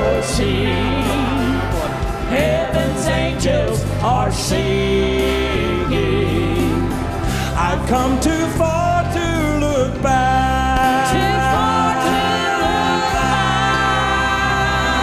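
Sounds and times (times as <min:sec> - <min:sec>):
piano: 0:00.0 - 0:15.0
steady bass line: 0:00.0 - 0:15.0
voices singing gospel: 0:00.0 - 0:15.0.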